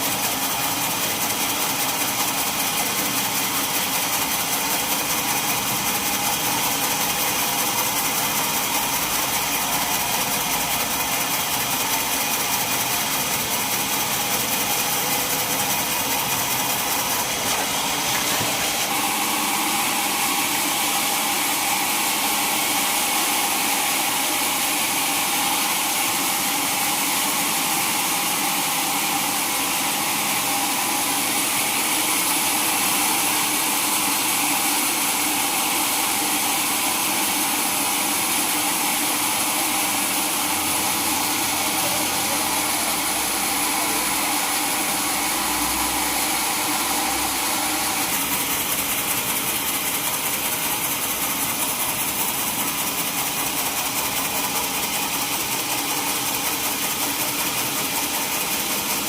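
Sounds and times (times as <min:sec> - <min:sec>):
sawmill machinery drone: 0:00.0 - 0:59.0.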